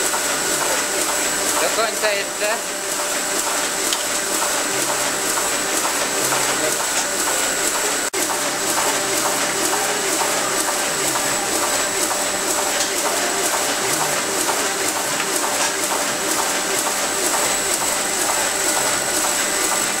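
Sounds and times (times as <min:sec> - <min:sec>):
printing press mechanical din: 0:00.0 - 0:20.0
rapid regular clicking: 0:00.0 - 0:20.0.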